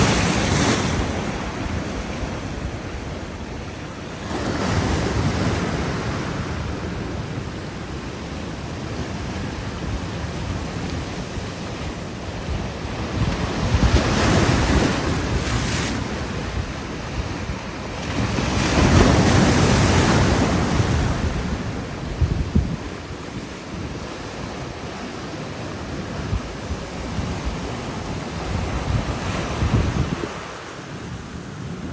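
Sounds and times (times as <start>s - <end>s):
ocean waves breaking on beach: 0.0s - 31.9s
wind rumbling on microphone: 0.0s - 31.9s.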